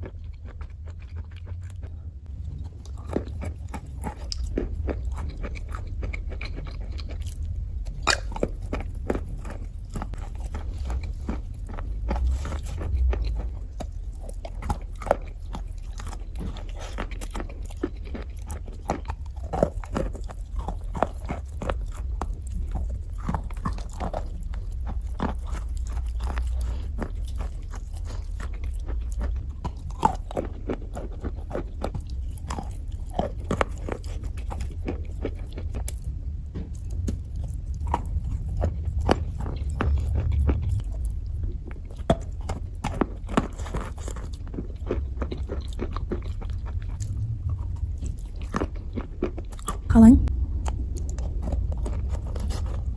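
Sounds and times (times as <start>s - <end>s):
crunchy chewing: 0.0s - 52.9s
low hum: 0.0s - 52.9s.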